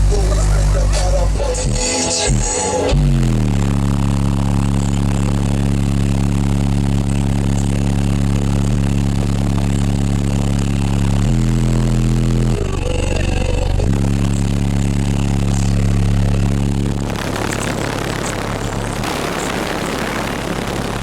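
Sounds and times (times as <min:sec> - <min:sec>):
distorted low bass tone: 0:00.0 - 0:21.0.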